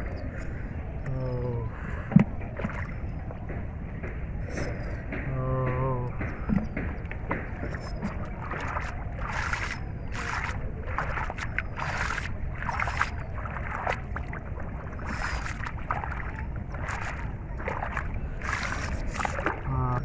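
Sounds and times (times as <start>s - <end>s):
steady low rumble: 0.0s - 20.0s
water splashing and sloshing: 0.0s - 20.0s.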